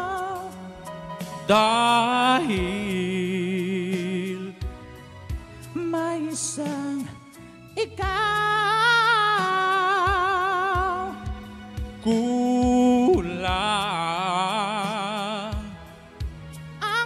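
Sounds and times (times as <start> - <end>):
backing track: 0.0 - 17.0
person singing a slow ballad: 0.0 - 17.0.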